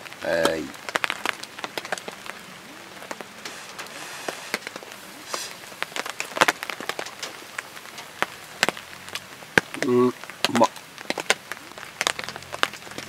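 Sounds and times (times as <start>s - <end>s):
charcoal crackling and popping: 0.0s - 13.0s
faint hiss: 0.0s - 13.0s.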